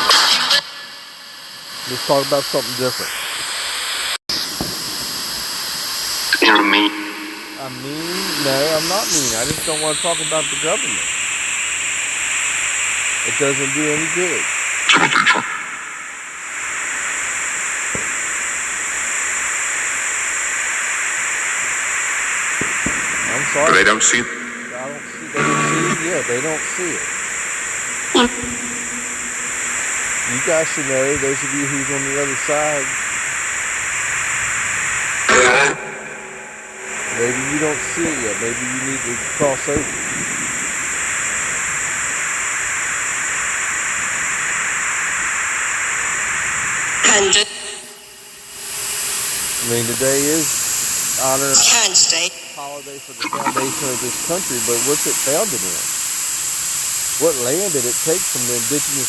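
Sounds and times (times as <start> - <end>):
static hiss: 0.0 - 59.0
night insects chorus: 0.5 - 59.0.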